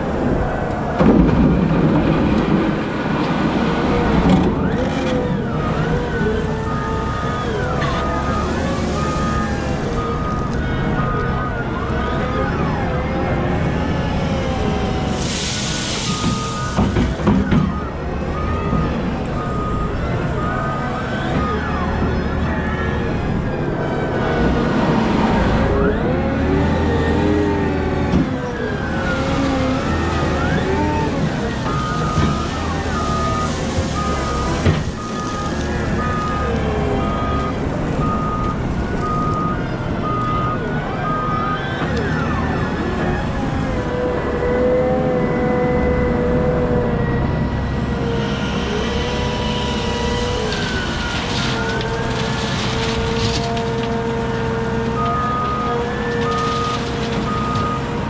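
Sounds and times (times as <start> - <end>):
diesel engine running and revving: 0.0 - 58.0.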